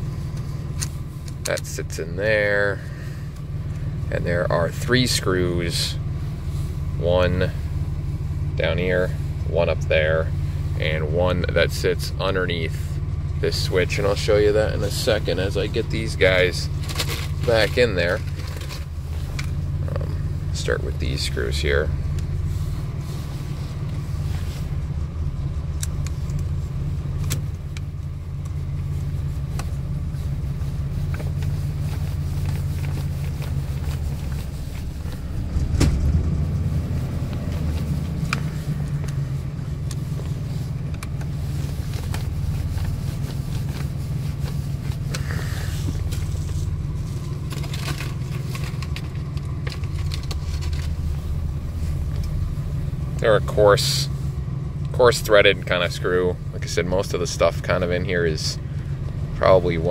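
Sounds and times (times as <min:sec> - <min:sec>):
truck engine idling: 0:00.0 - 0:59.9.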